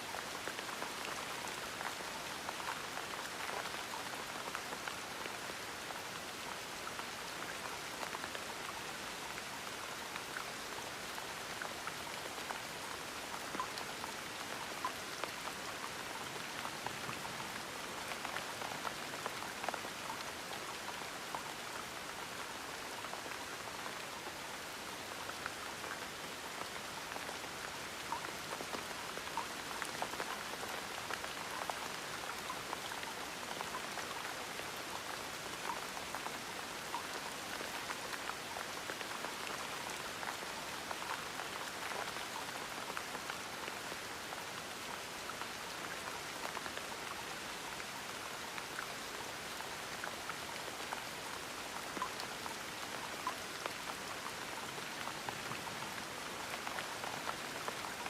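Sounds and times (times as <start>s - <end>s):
gentle rain patter: 0.0s - 58.0s.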